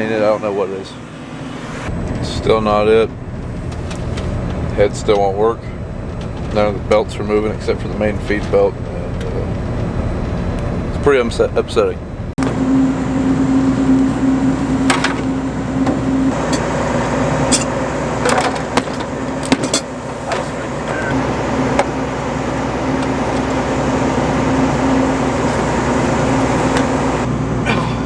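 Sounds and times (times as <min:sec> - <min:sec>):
combine harvester humming: 0:00.0 - 0:28.0.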